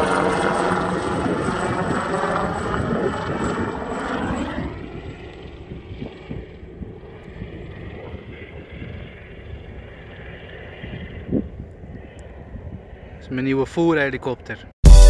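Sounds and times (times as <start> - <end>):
helicopter passing overhead: 0.0 - 14.8.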